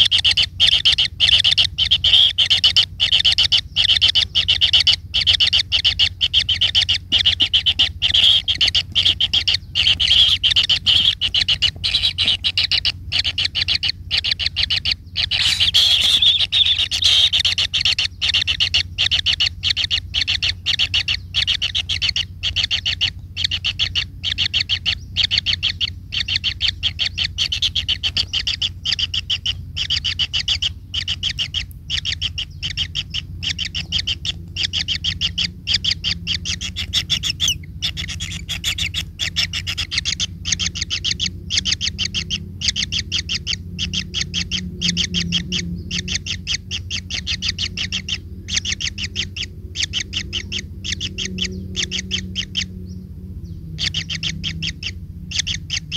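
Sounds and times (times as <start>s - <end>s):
bird chirping rapidly: 0.0s - 55.9s.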